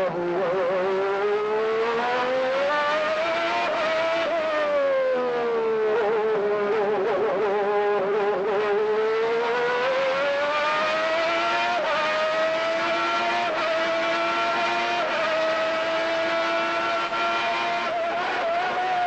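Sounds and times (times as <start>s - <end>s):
racing car engine accelerating: 0.0s - 19.0s.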